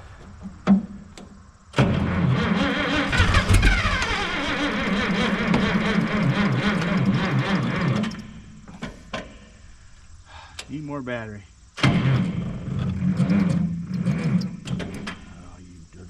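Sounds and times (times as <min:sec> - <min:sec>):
tractor engine cranking on starter: 0:00.1 - 0:09.4, 0:11.8 - 0:15.6.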